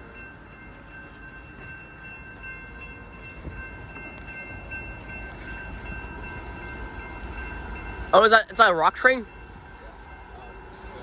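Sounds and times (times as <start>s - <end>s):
diesel locomotives rumbling: 0.0s - 11.0s
steady high tones: 0.0s - 11.0s.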